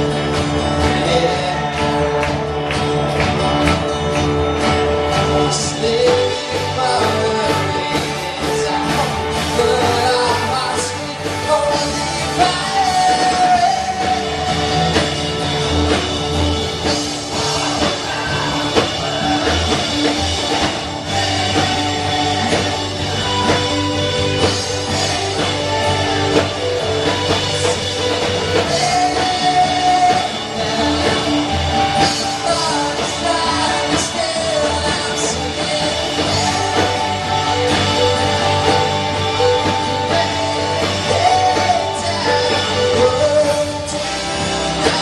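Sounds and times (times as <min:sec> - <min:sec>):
person singing: 0:00.0 - 0:03.8, 0:05.0 - 0:45.0
rock band playing: 0:00.0 - 0:45.0.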